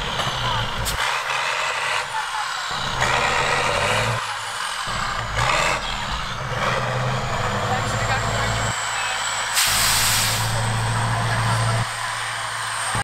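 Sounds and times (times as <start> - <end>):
truck engine running hard: 0.0 - 13.0.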